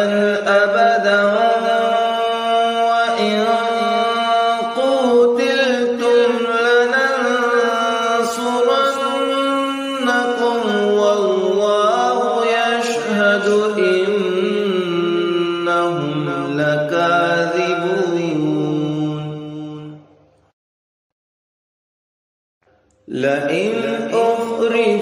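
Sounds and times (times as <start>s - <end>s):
person chanting verses: 0.0s - 20.0s, 23.1s - 25.0s.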